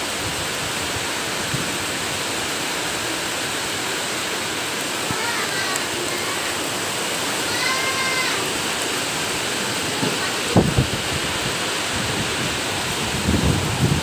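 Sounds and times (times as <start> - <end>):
rain on metal roof: 0.0 - 14.0.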